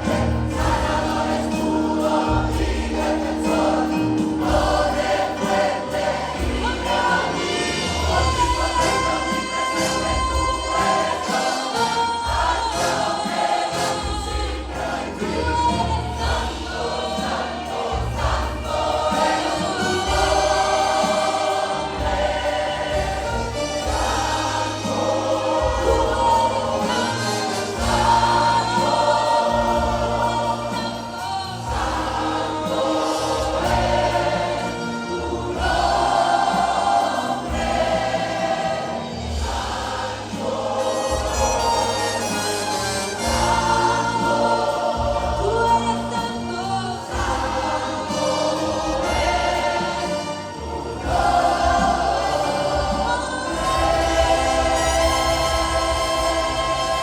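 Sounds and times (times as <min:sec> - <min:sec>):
band accompaniment: 0:00.0 - 0:57.0
choir singing worship song: 0:00.0 - 0:57.0.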